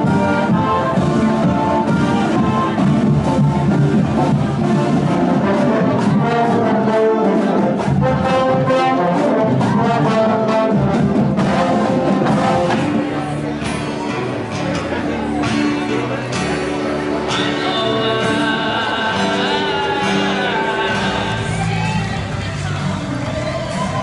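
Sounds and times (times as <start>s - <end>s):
brass band playing: 0.0s - 24.0s.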